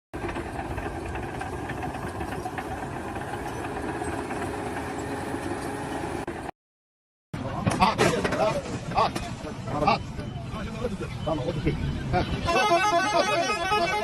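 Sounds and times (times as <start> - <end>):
heavy engine rumbling: 0.2 - 6.5, 7.4 - 14.0.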